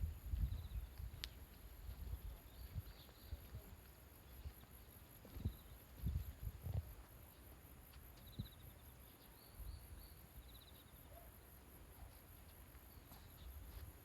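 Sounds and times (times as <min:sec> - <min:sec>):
insect trills: 0:00.0 - 0:14.0
insects chirping: 0:00.0 - 0:14.0.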